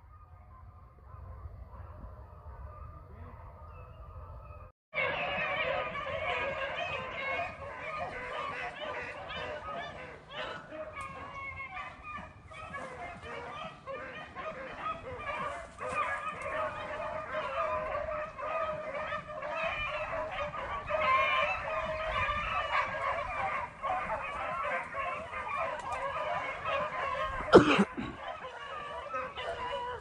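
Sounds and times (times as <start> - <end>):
hounds baying: 0.0 - 30.0.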